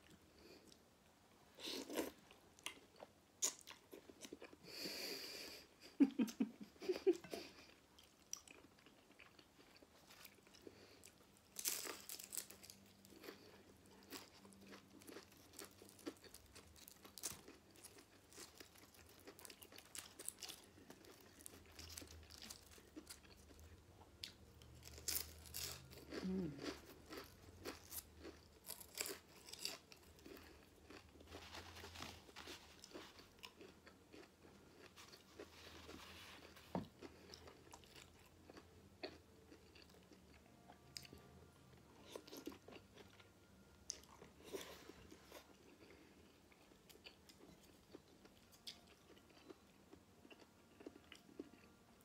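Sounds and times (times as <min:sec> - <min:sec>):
crunching and chewing: 0:01.6 - 0:04.8, 0:07.1 - 0:52.0.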